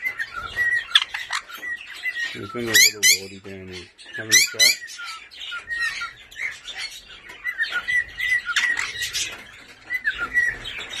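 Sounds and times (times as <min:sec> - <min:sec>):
small parrots chirping and whistling: 0:00.0 - 0:11.0.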